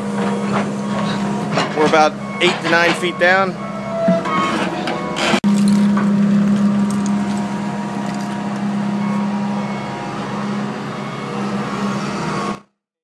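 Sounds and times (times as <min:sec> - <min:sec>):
machinery engine humming: 0:00.0 - 0:12.6.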